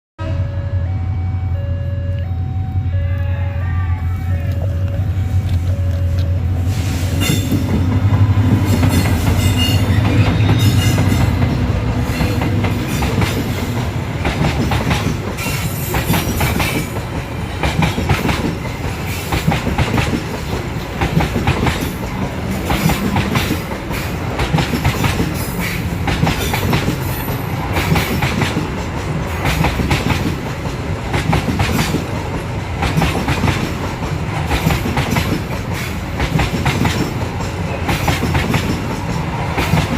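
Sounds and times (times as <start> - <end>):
diesel locomotive engine drone: 0.2 - 39.9
train wheels clickety-clack: 6.9 - 39.9.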